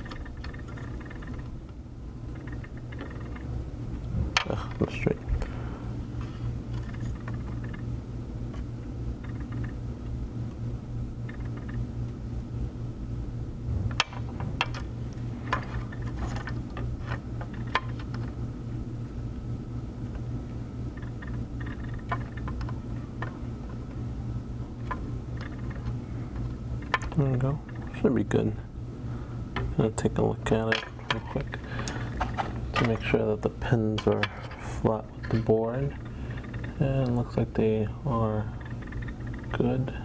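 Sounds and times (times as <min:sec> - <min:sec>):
steady low machine hum: 0:00.0 - 0:40.0.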